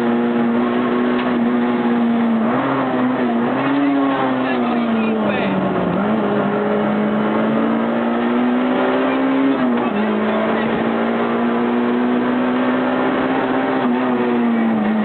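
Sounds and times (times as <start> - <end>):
car engine revving in cabin: 0.0 - 15.0.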